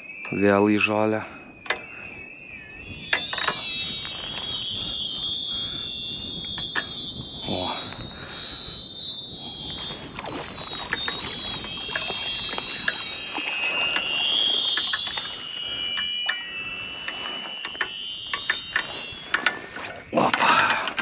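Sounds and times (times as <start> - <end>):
fishing reel whining: 1.6 - 21.0.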